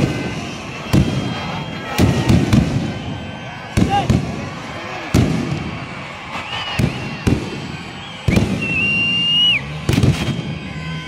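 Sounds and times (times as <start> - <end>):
fireworks bangs: 0.0 - 11.0
high firework whistle: 0.0 - 11.0.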